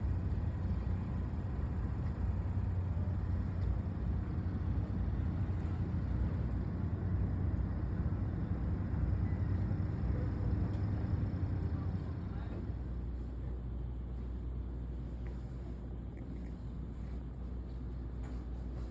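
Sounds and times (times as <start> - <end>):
low engine rumble: 0.0 - 18.9.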